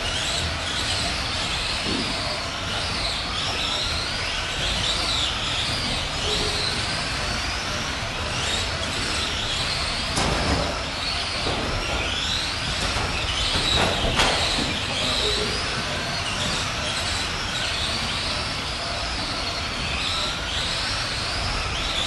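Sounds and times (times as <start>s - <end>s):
rc truck motors whining: 0.0s - 22.0s.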